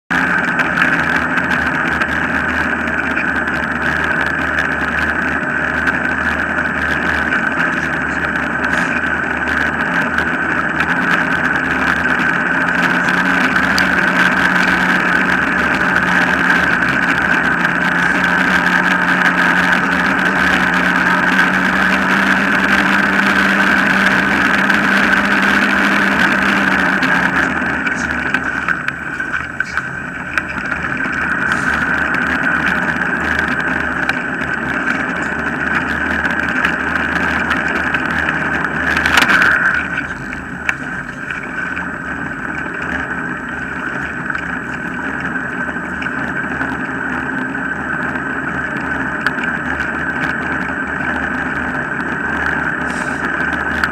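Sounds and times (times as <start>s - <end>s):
wheels rolling on tarmac: 0.1s - 53.9s.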